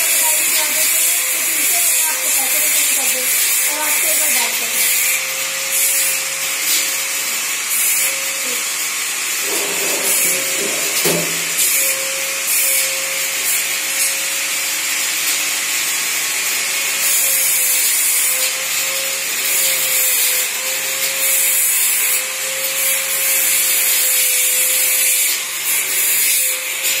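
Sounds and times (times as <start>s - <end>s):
machine whir: 0.0s - 27.0s.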